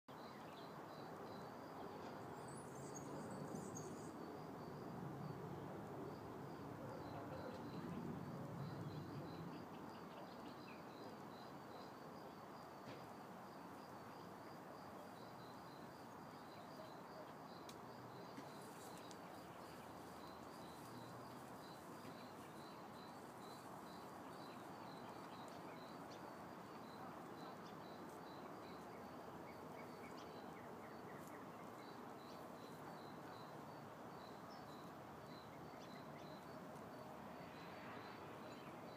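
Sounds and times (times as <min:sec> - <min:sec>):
cricket chirping: 0:00.1 - 0:38.9.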